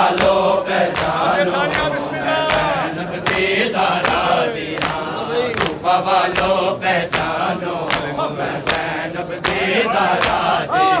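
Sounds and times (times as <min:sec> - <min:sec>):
crowd of men chanting: 0:00.0 - 0:11.0
hands slapping bare chests: 0:00.1 - 0:10.6.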